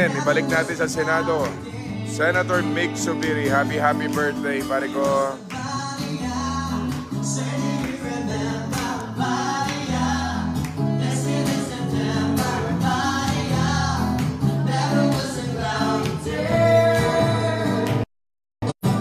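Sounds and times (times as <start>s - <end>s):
acoustic guitar chords: 0.0s - 18.1s, 18.7s - 19.0s
person singing: 0.0s - 18.1s.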